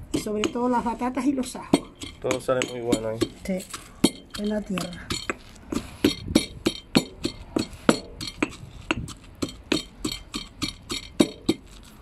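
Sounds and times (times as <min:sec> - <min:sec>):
stone pestle pounding in mortar: 0:00.0 - 0:11.8.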